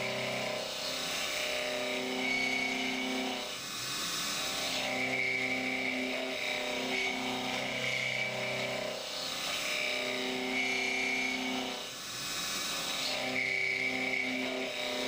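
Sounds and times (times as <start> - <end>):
milling machine cutting metal: 0.0 - 15.0.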